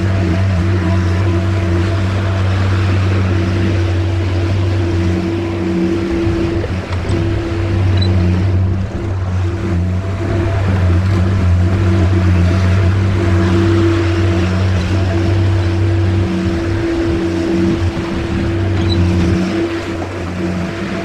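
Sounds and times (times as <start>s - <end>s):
skid steer engine droning: 0.0s - 21.0s.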